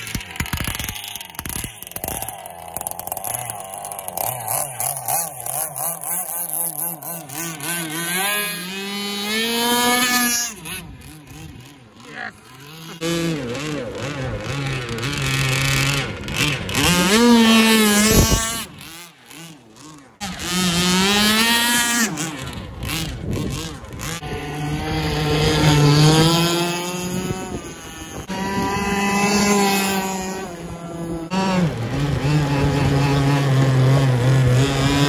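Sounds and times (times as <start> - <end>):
model boat engines revving: 0.0 - 35.0.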